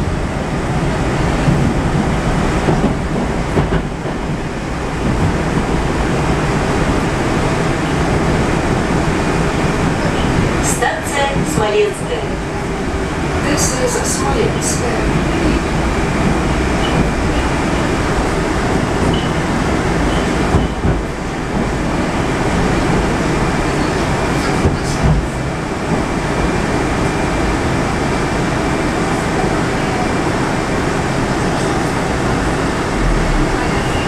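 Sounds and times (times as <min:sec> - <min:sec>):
metro car running noise: 0:00.0 - 0:34.0.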